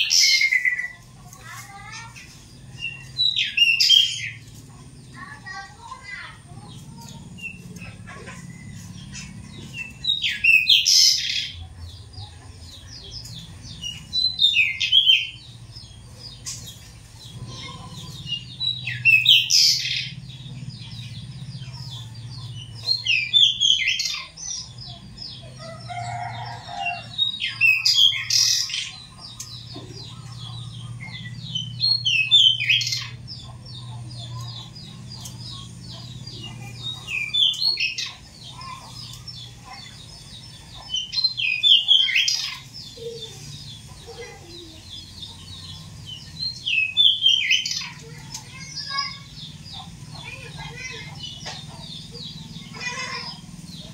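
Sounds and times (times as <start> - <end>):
bird singing bright phrases: 0.0 - 53.9.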